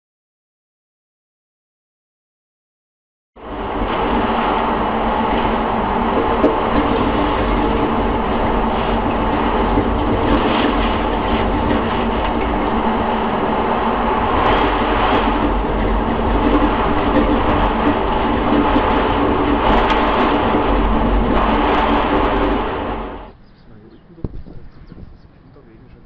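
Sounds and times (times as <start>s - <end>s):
tornado winds roaring: 3.4s - 26.0s.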